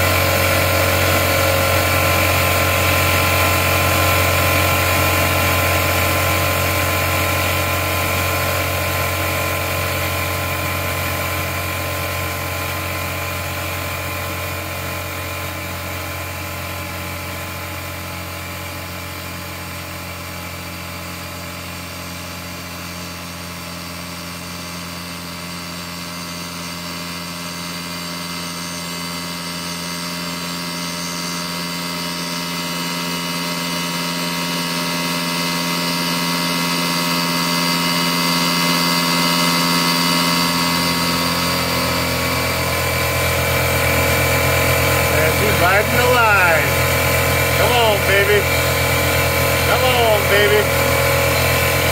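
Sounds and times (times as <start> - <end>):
electric air compressor running: 0.0 - 51.9.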